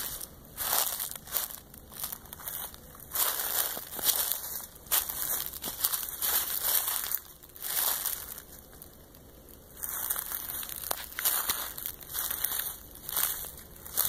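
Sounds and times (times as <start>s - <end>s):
footsteps crunching through dry leaves: 0.0s - 14.0s.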